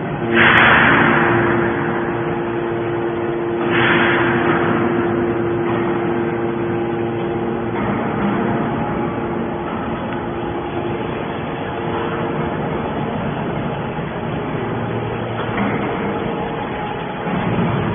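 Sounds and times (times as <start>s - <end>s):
hydraulic baler pump humming: 0.0s - 17.9s
rushing burst of noise: 0.0s - 17.9s.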